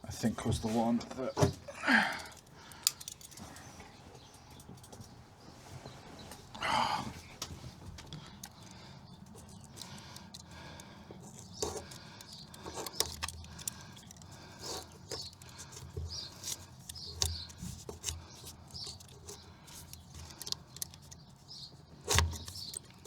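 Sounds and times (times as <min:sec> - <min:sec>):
hands clicking and tapping parts: 0:01.3 - 0:05.1, 0:07.4 - 0:23.0.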